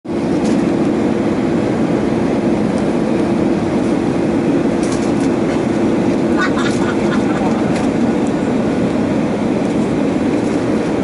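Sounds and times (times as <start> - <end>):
jet engine cabin rush: 0.1 - 11.0.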